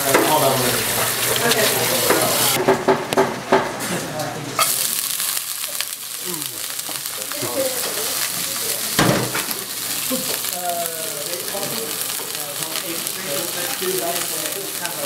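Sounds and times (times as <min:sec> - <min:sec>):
sprouts sizzling in a frying pan: 0:00.0 - 0:02.6, 0:04.6 - 0:15.0.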